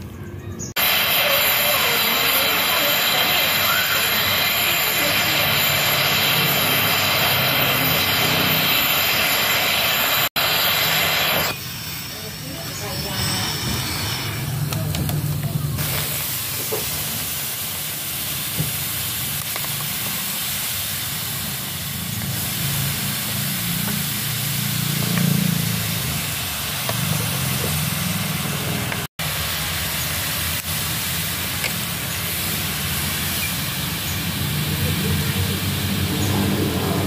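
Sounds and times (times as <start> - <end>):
water hissing on hot metal: 0.7 - 37.0.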